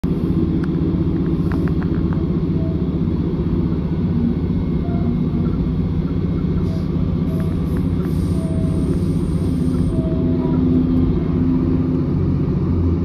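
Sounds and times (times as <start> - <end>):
train diesel engine rumble: 0.0 - 13.0.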